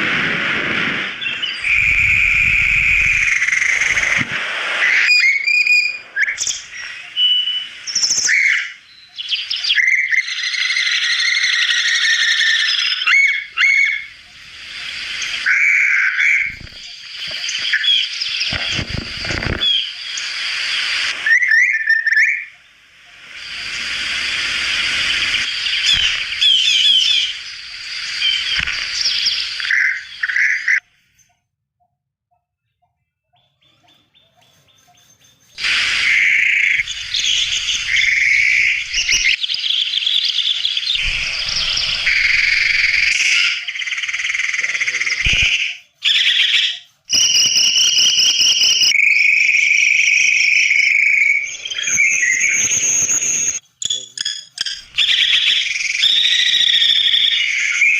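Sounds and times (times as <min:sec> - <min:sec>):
birds chirping and trilling: 0:01.1 - 0:04.2, 0:04.8 - 0:31.5, 0:32.6 - 0:57.9.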